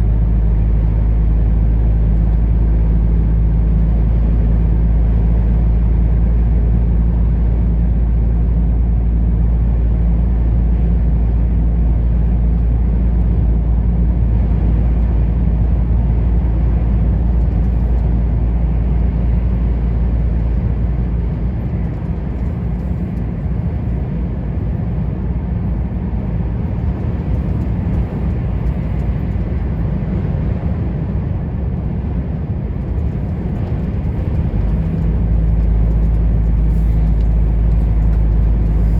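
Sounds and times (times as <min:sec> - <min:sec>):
road rumble: 0:00.0 - 0:38.9
truck engine hum: 0:00.0 - 0:38.9.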